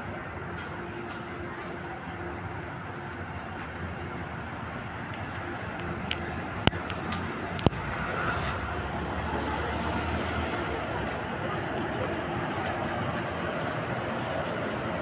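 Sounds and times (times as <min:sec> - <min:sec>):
road traffic: 0:00.0 - 0:15.0
train rumbling across viaduct: 0:00.0 - 0:15.0.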